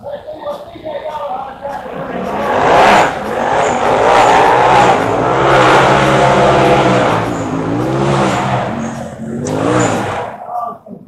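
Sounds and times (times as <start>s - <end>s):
buggy engine revving: 0.0s - 10.7s.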